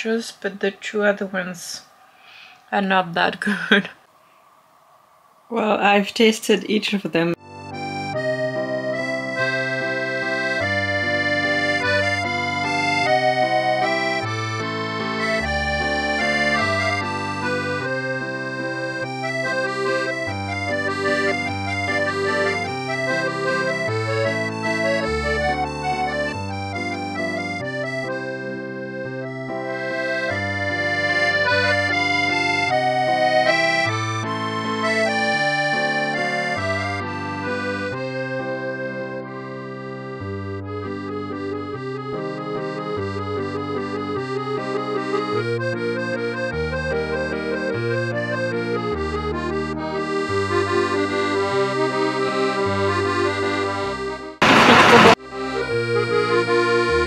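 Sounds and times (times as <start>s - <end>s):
accordion music: 7.3s - 57.0s.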